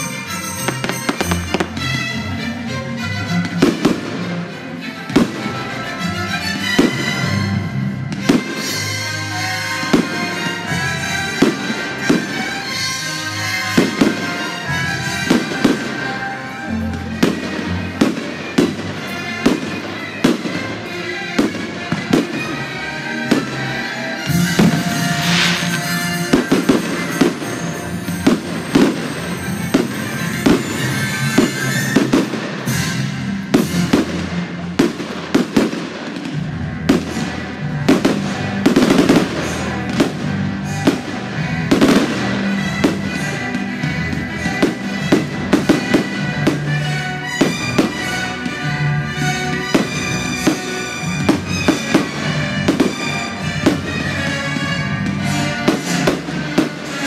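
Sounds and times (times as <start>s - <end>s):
fireworks bursting: 0.0s - 2.0s, 3.4s - 57.0s
music playing: 0.0s - 57.0s.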